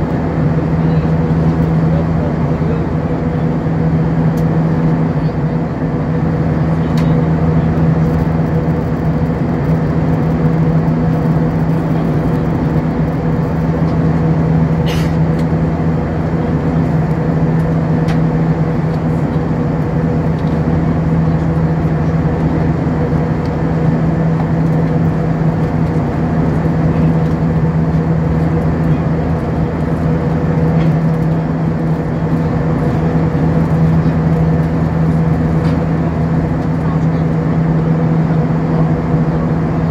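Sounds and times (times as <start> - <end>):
aircraft cabin engine hum: 0.0 - 39.9.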